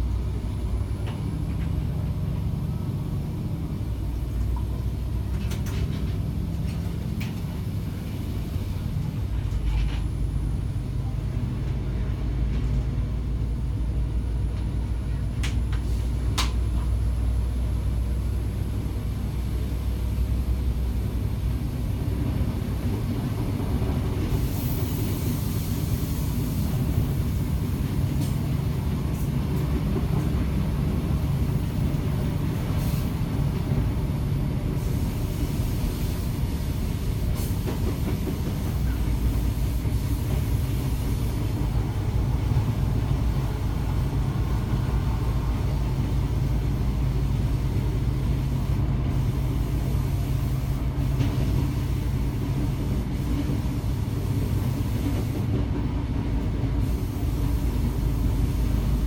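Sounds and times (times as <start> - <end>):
railbus engine rumble: 0.0 - 59.0.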